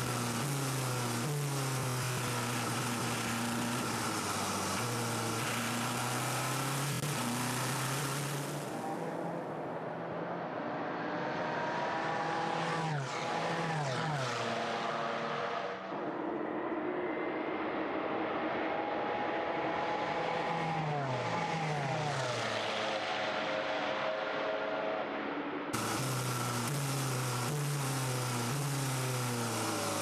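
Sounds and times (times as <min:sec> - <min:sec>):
race cars passing at speed: 0:00.0 - 0:30.0.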